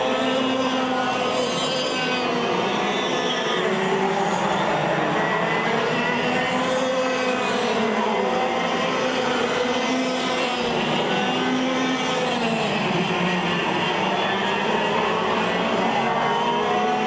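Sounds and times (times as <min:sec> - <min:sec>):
kart engines buzzing: 0:00.0 - 0:17.0.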